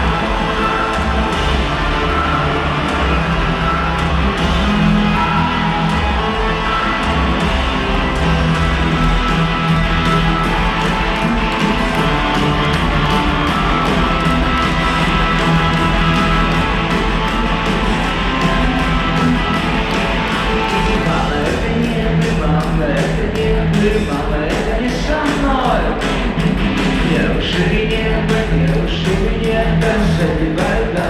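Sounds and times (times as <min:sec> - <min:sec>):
electric guitar: 0:00.0 - 0:31.0
steady drum beat: 0:00.0 - 0:31.0.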